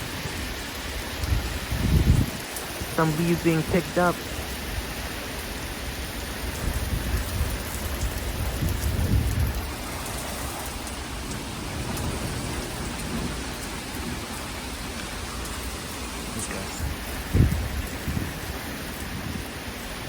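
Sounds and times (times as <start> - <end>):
heavy rain pouring: 0.0 - 20.0
wind gusts buffeting microphone: 0.0 - 20.0.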